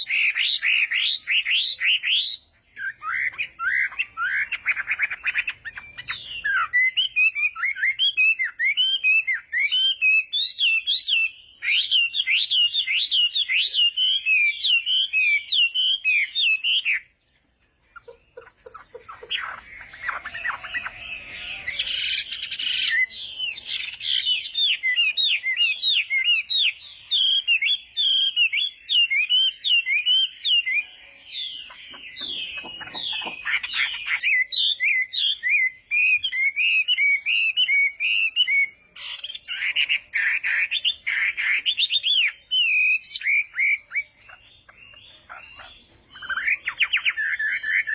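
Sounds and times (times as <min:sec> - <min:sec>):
bird singing whistled phrases: 0:00.0 - 0:17.1, 0:19.1 - 0:47.9.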